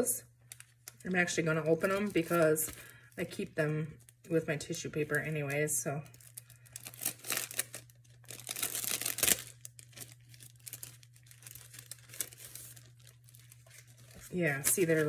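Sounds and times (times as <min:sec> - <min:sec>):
plastic packet crinkling: 0:00.4 - 0:15.0.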